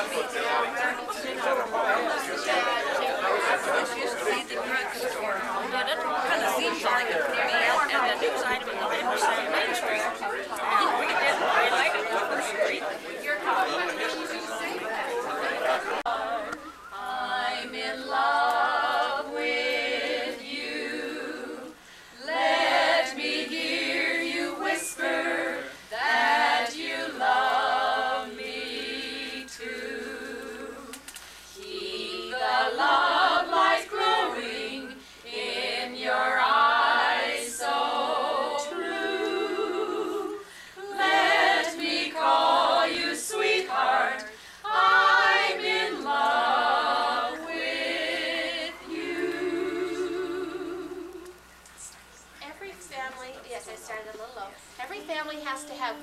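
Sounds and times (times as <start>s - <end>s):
group singing unaccompanied: 0.0s - 51.5s.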